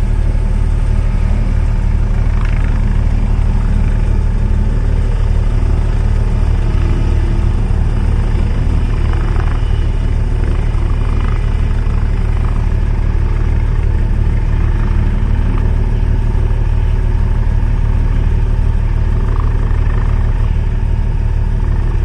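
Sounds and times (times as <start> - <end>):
helicopter engine noise: 0.0 - 22.0
helicopter rotor beating: 0.0 - 22.0.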